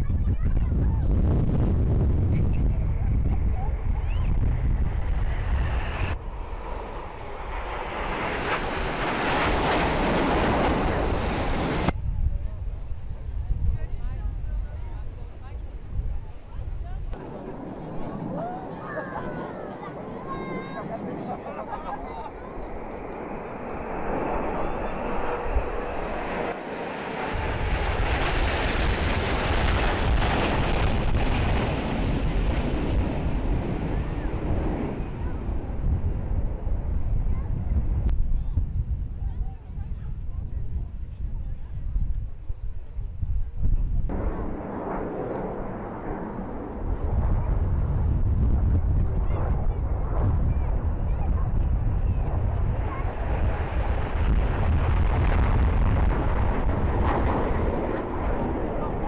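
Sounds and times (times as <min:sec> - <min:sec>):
jet aircraft flying past: 0:00.7 - 0:12.0, 0:12.6 - 0:41.1, 0:44.1 - 0:59.0.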